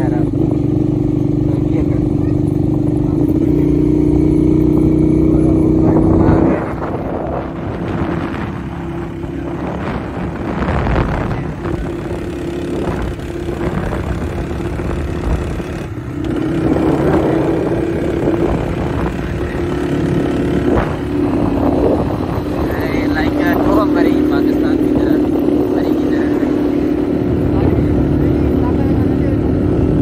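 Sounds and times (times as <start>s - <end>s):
motorcycle engine running: 0.0s - 30.0s
wind and road noise: 0.0s - 30.0s.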